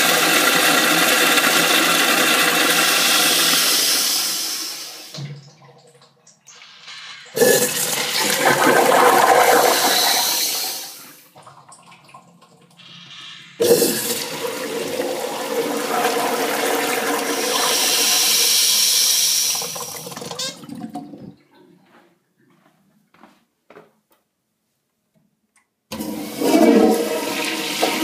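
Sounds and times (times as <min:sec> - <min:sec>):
urinal flushing: 0:00.0 - 0:21.6, 0:25.9 - 0:28.0.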